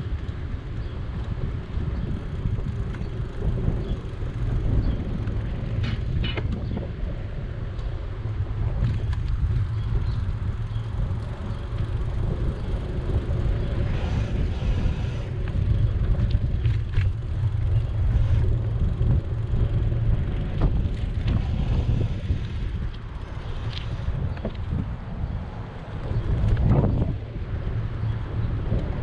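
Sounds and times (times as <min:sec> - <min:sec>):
bicycle road noise: 0:00.0 - 0:29.0
wind buffeting microphone: 0:00.0 - 0:29.0.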